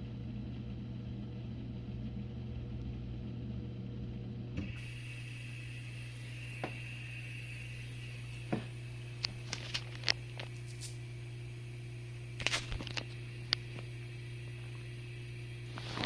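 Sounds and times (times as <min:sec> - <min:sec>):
dishwasher humming: 0:00.0 - 0:16.0.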